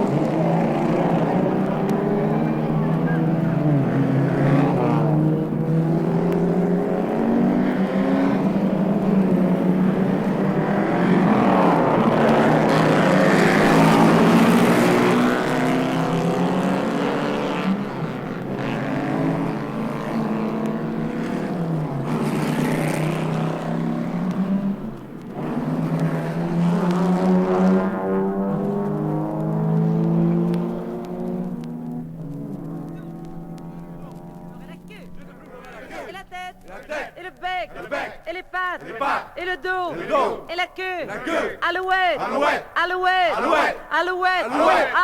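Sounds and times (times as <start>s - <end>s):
car engines passing at speed: 0.0s - 45.0s.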